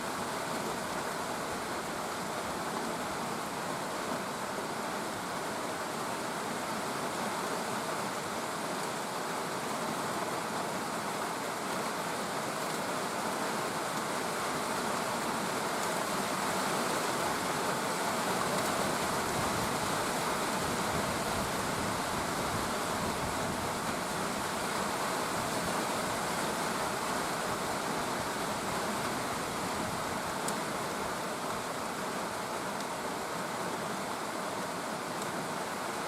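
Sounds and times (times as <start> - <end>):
steady rain hissing: 0.0 - 36.0.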